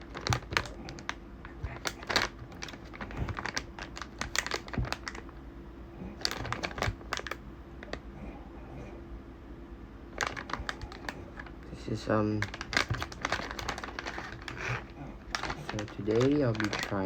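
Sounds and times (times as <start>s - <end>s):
plastic snack packet crinkling: 0.0s - 5.3s, 6.2s - 8.0s, 10.2s - 17.0s.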